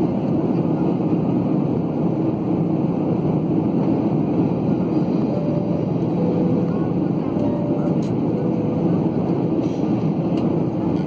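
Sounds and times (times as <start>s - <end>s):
airliner cabin engine roar: 0.0s - 11.0s.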